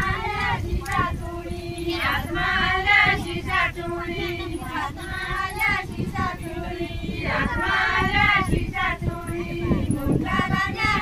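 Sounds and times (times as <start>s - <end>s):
low uneven rumble: 0.0s - 11.0s
women singing in chorus: 0.0s - 11.0s.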